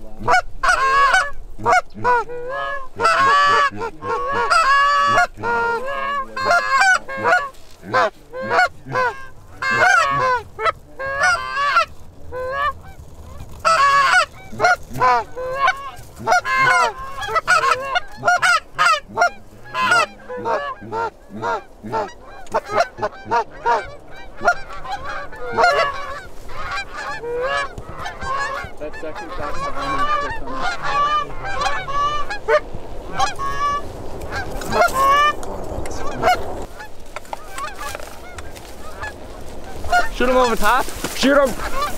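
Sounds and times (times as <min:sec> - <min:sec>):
geese honking: 0:00.0 - 0:41.9
steady low rush: 0:00.0 - 0:41.9.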